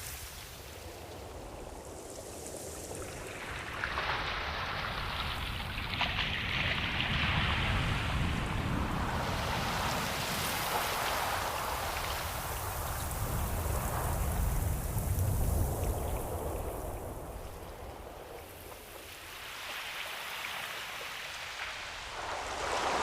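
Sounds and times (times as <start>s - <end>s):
ocean waves washing over shore: 0.0s - 23.0s.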